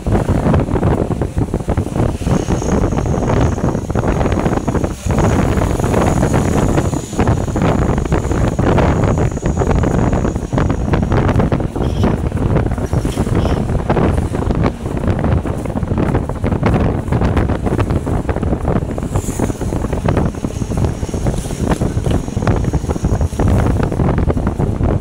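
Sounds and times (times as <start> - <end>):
road and traffic noise: 0.0 - 25.0
wind buffeting microphone: 0.0 - 25.0.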